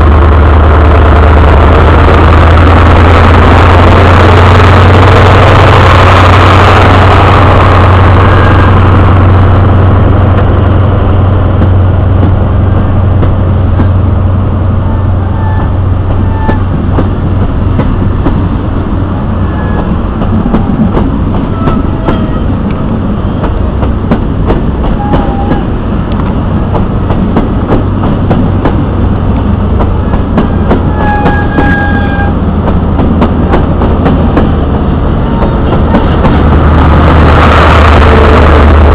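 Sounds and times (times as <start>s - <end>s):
diesel train engine drone: 0.0s - 38.9s.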